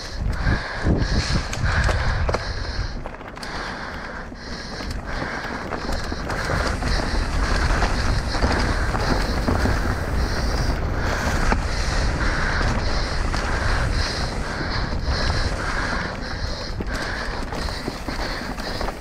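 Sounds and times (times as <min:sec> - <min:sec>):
bike tyres and frame rattling: 0:00.0 - 0:19.0
wind buffeting microphone: 0:00.0 - 0:19.0
bike freehub buzzing: 0:03.5 - 0:19.0.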